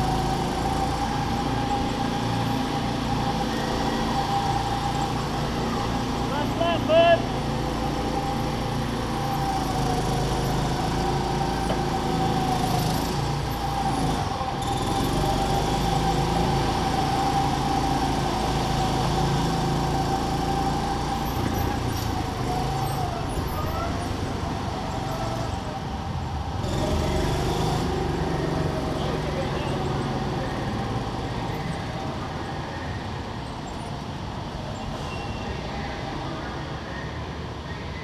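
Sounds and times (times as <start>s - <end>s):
go-kart motor whine: 0.0s - 34.0s.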